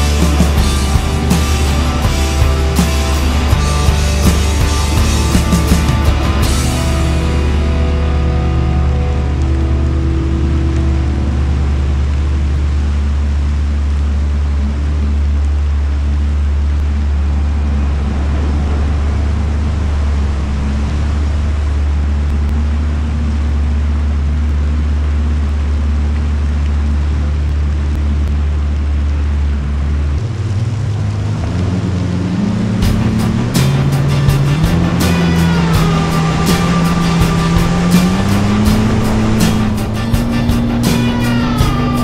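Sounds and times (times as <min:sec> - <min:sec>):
jet ski engine drone: 0:00.0 - 0:42.0
rushing water and spray: 0:00.0 - 0:42.0.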